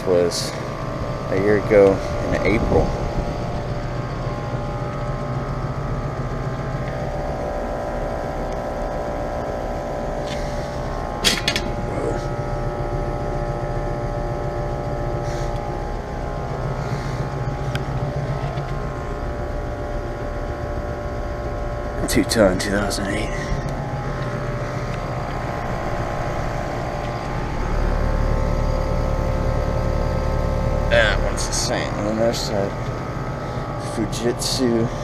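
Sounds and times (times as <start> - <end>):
air conditioner units humming: 0.0 - 35.0.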